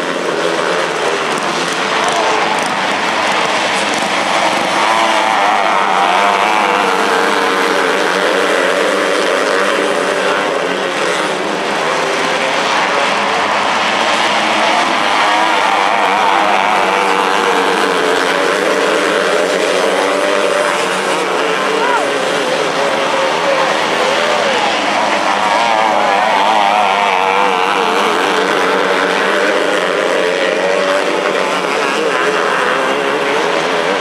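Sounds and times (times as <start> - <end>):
racing car engines: 0.0 - 34.0.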